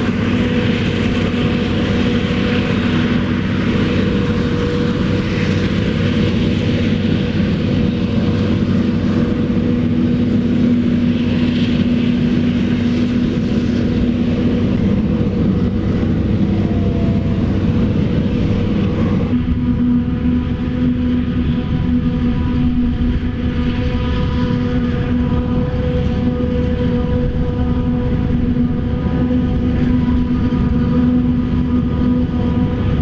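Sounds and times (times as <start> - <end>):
heavy diesel machinery running: 0.0 - 33.0.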